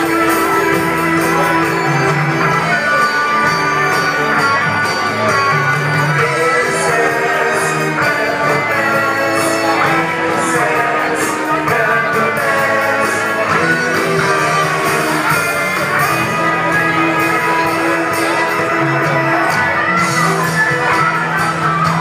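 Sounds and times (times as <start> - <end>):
electric guitar: 0.0 - 22.0
rock band playing: 0.0 - 22.0.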